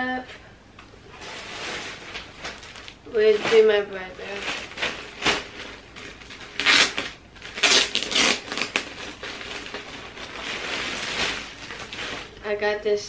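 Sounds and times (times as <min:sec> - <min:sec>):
plastic bag crinkling: 0:01.1 - 0:12.6.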